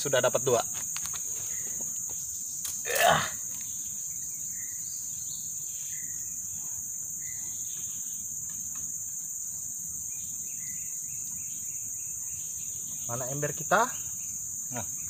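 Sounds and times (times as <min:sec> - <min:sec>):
insects droning: 0:00.0 - 0:15.0
faint bird chirps: 0:01.0 - 0:08.9, 0:10.0 - 0:15.0.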